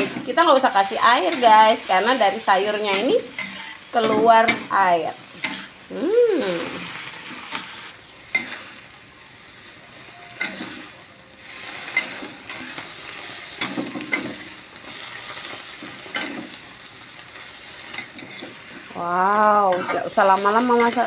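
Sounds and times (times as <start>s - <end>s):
metal spatula scraping a wok: 0.0s - 5.8s, 6.8s - 16.6s, 17.3s - 21.0s
low sizzle: 0.0s - 21.0s.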